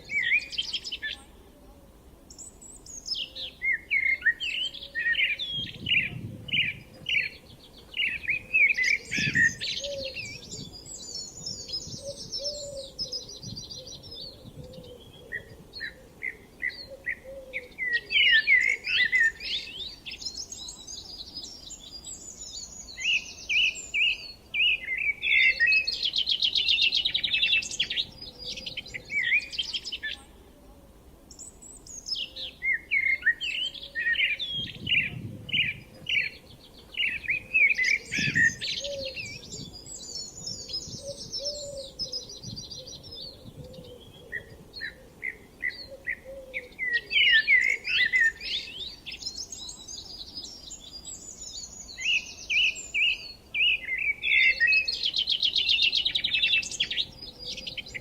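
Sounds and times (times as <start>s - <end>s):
songbirds twittering: 0.0s - 30.5s, 31.3s - 58.0s.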